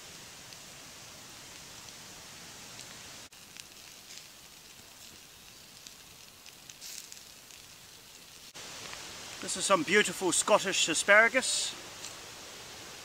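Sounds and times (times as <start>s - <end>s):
skewers sizzling over coals: 0.0s - 13.0s.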